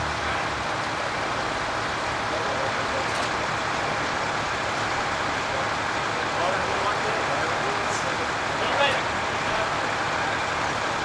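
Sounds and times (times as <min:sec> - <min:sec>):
heavy demolition equipment running: 0:00.0 - 0:11.0.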